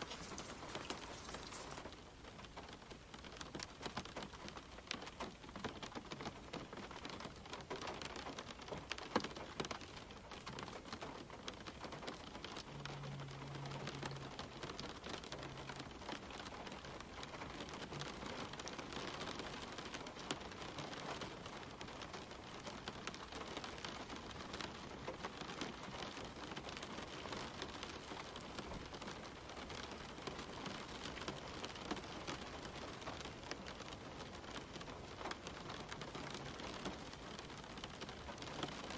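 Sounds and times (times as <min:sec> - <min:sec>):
rain on leaves and ground: 0:00.0 - 0:38.9.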